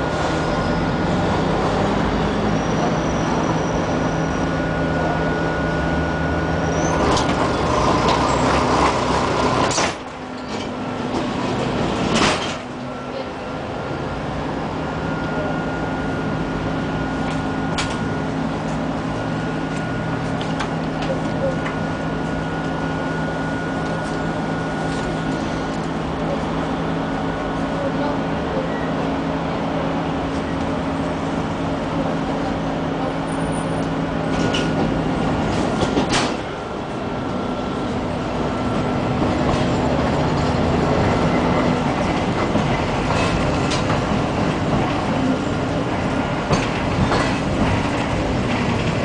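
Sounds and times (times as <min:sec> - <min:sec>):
tram motor hum and whine: 0:00.0 - 0:49.0
tram running on track: 0:00.0 - 0:49.0.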